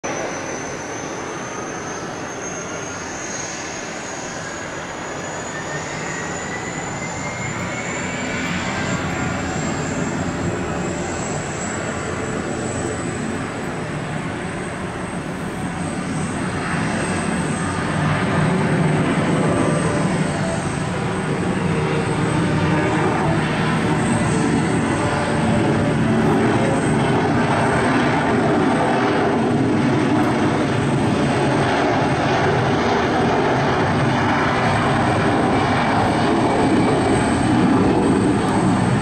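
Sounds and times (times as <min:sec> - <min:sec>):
high jet whine rising: 0:00.0 - 0:39.0
jet engine rumble: 0:00.1 - 0:39.0.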